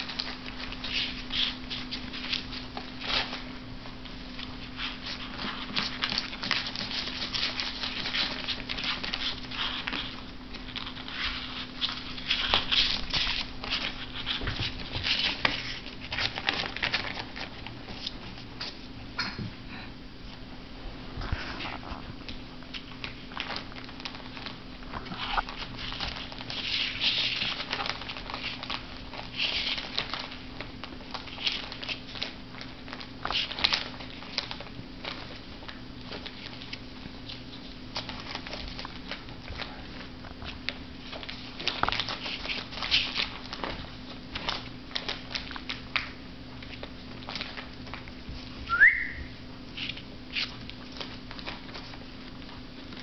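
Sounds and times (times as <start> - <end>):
paper and plastic bags crinkling: 0.0 - 19.0, 21.4 - 48.8, 49.6 - 53.0
steady low hum: 0.0 - 53.0.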